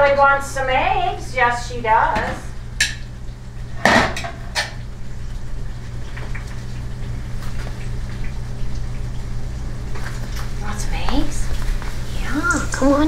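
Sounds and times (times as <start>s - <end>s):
eggs sizzling in a pan: 0.1s - 13.0s.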